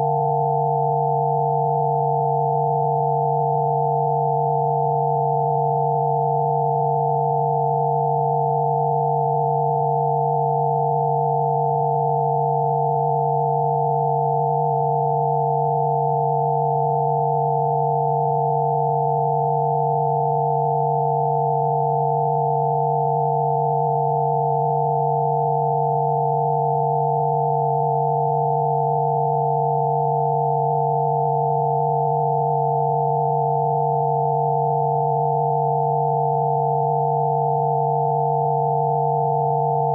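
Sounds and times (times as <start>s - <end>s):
high pure sine tones: 0.0s - 39.9s.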